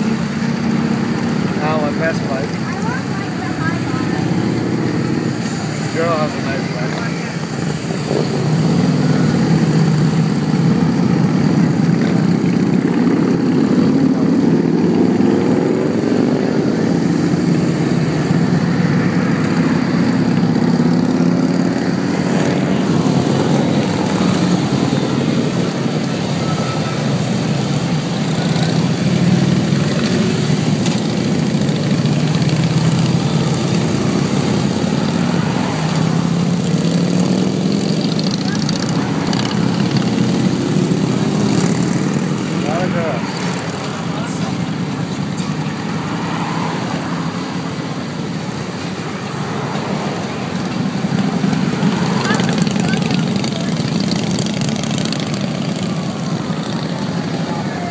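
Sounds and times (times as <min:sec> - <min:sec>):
motorcycles riding past: 0:00.0 - 0:57.9.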